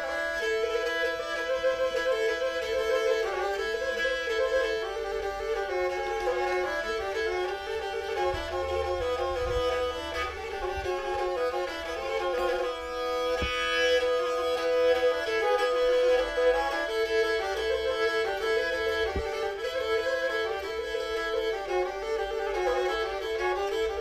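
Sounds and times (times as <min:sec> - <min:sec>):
bowed fiddle melody: 0:00.0 - 0:24.0.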